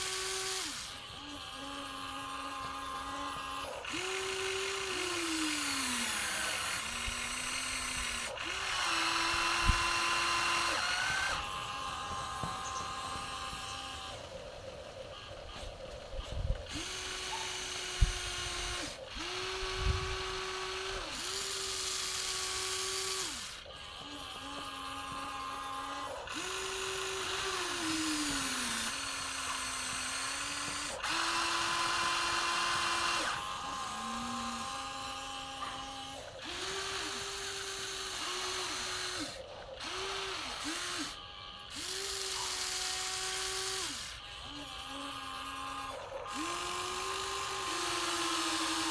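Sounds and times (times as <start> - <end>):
small electric motors whining: 0.0 - 48.9.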